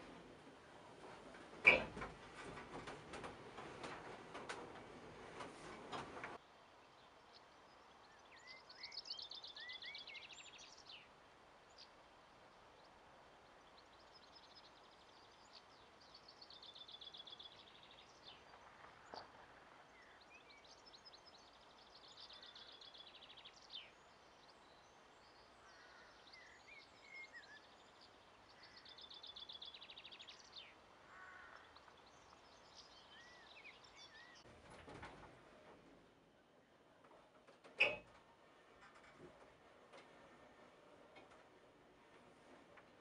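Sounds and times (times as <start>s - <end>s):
faint outdoor hiss: 0.0s - 43.0s
songbirds trilling and chirping: 0.0s - 43.0s.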